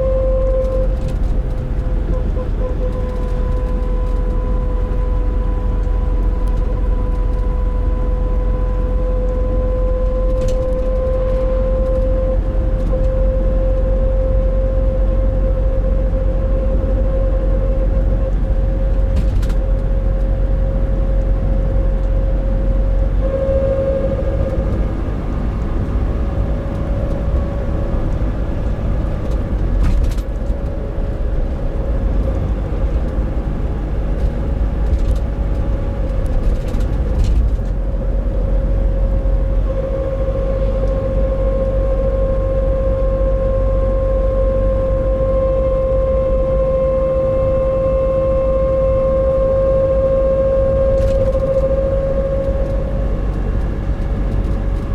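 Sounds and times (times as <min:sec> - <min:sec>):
diesel van engine rumble: 0:00.0 - 0:54.9
droning tone: 0:00.0 - 0:54.9.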